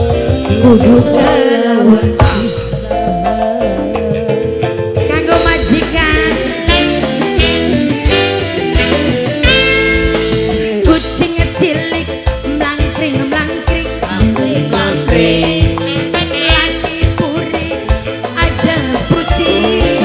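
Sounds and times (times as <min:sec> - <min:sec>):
electric guitars: 0:00.0 - 0:20.0
keyboard lead melody: 0:00.0 - 0:20.0
steady drum beat: 0:00.0 - 0:20.0.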